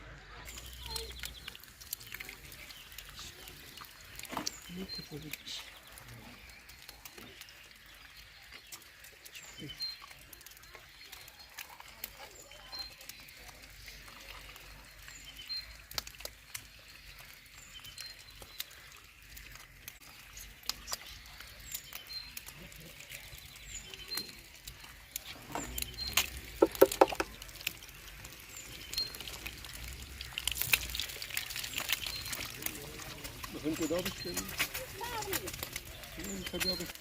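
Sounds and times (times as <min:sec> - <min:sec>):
small bird chirping: 0:00.4 - 0:37.0.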